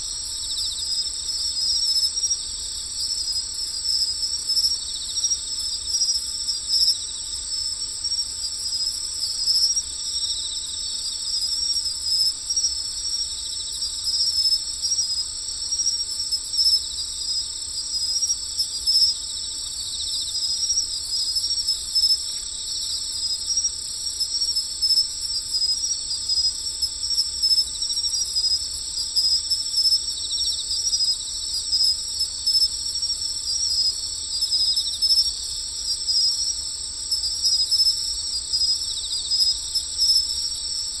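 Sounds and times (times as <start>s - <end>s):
crickets trilling: 0.0s - 41.0s.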